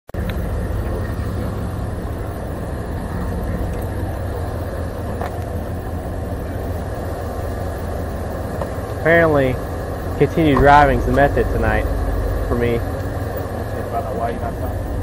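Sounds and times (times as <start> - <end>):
car engine idling: 0.1 - 15.0.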